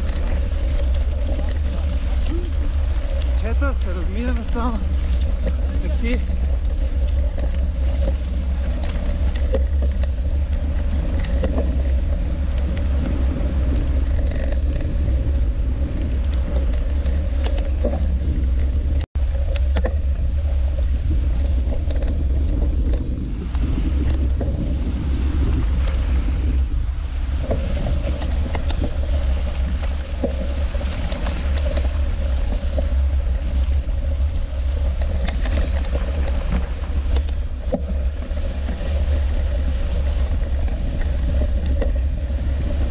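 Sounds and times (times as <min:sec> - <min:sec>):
tyres crackling over stones: 0:00.0 - 0:26.0, 0:27.3 - 0:42.9
wind and vibration rumble: 0:00.0 - 0:42.9.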